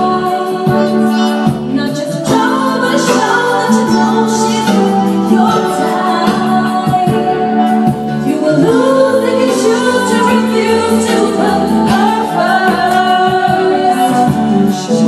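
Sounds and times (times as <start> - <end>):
karaoke backing music: 0.0 - 15.0
woman singing into a microphone: 0.0 - 15.0.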